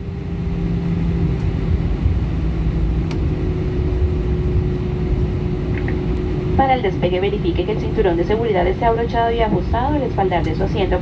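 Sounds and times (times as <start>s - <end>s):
jet engine low rumble: 0.0s - 11.0s
steady hum: 0.0s - 11.0s.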